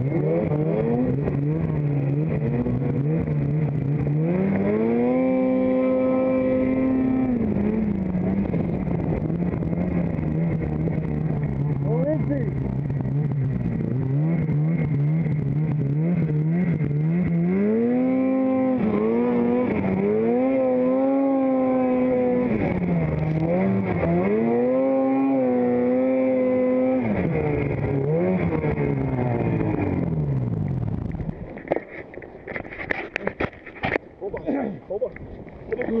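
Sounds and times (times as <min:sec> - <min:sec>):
snowmobile engine revving: 0:00.0 - 0:31.4.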